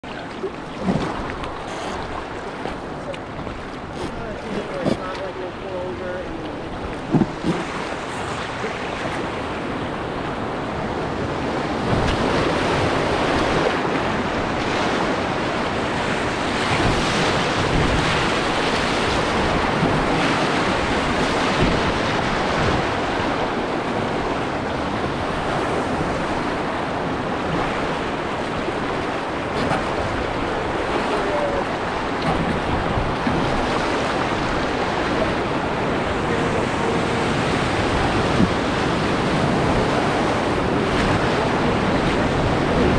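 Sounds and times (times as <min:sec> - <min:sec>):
rushing whitewater: 0:00.0 - 0:42.9
wind noise on microphone: 0:06.8 - 0:42.9.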